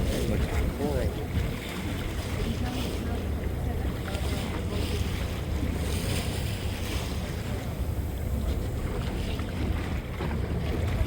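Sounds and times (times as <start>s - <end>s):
boat motor rumbling: 0.0s - 11.0s
water washing against hull: 0.0s - 11.0s
wind buffeting microphone: 0.0s - 11.0s.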